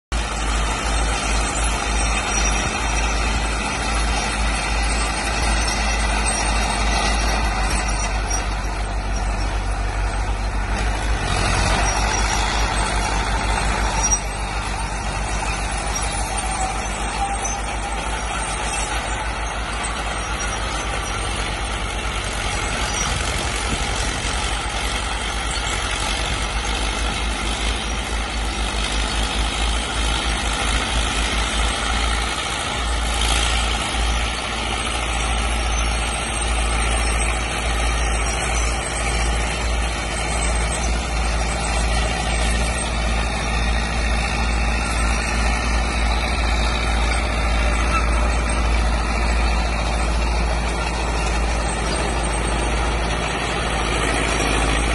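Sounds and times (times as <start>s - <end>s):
crawler tractor engines throbbing: 0.0s - 54.9s.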